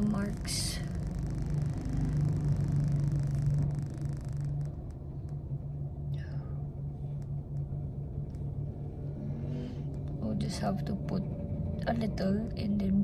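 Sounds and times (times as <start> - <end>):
car interior engine hum: 0.0 - 11.2.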